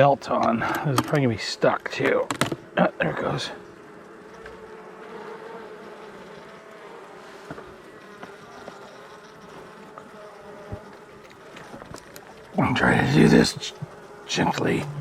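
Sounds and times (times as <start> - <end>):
faint clicks of hive parts: 0.0 - 15.0
honeybees buzzing: 0.0 - 15.0.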